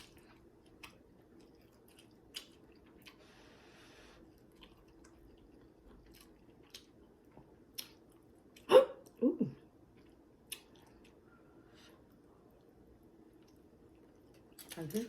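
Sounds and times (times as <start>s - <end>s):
chewing food: 0.0s - 9.2s, 9.8s - 15.0s.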